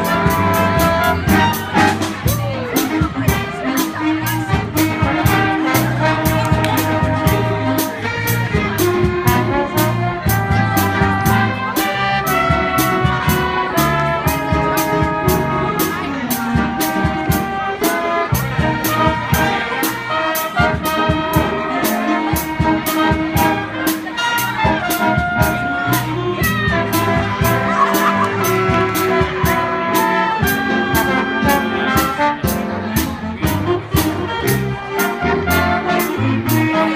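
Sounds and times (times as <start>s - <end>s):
big band jazz ensemble: 0.0s - 36.9s
brass section playing chords: 0.0s - 36.9s
steady drum beat: 0.0s - 36.9s.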